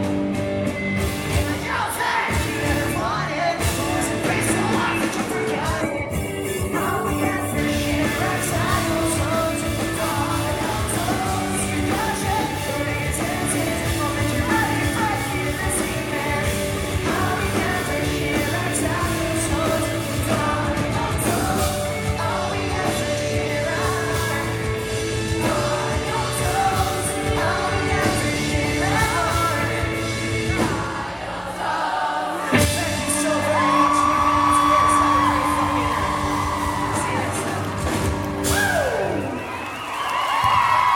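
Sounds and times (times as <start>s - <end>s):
pop-punk band playing live: 0.0s - 40.9s
lead singer singing: 1.0s - 39.6s.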